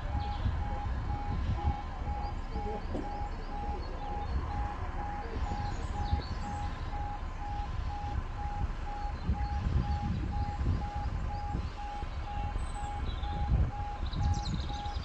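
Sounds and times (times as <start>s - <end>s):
level crossing alarm beeping: 0.0s - 15.0s
low rumble: 0.0s - 15.0s.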